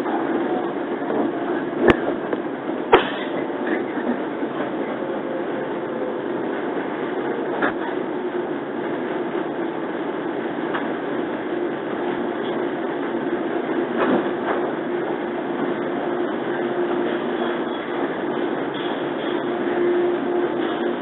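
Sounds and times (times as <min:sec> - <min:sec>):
train cabin rumble and hum: 0:00.0 - 0:21.0.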